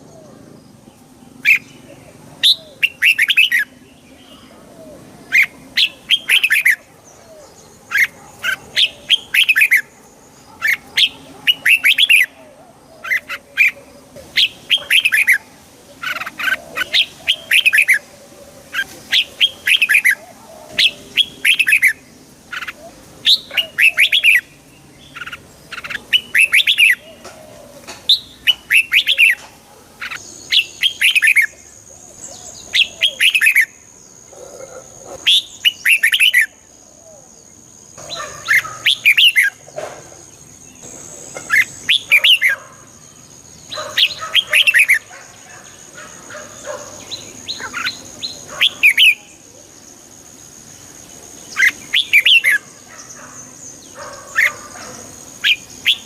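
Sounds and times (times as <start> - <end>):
bird singing chirped phrases: 0.0 - 56.0.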